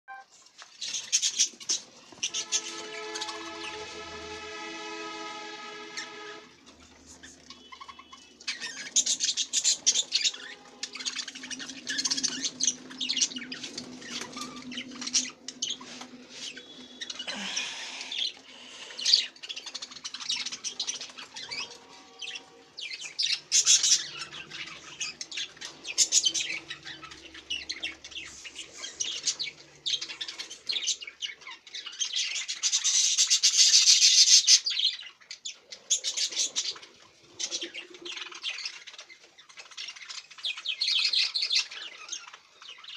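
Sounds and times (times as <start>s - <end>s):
parrots chirping and squawking: 0.8s - 42.9s.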